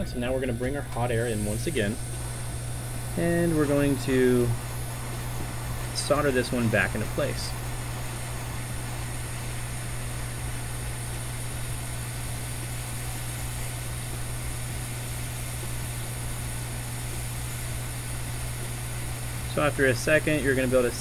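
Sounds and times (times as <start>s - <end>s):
hot air station blowing: 0.0s - 21.0s.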